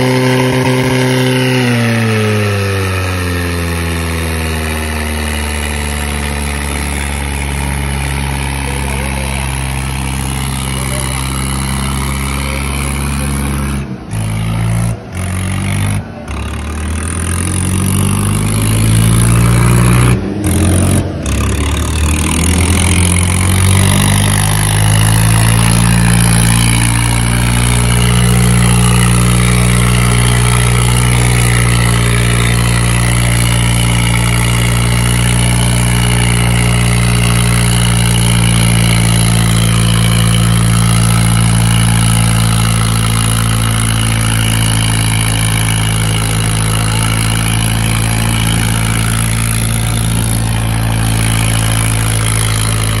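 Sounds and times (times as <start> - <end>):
tractor engine at full throttle: 0.0 - 53.0.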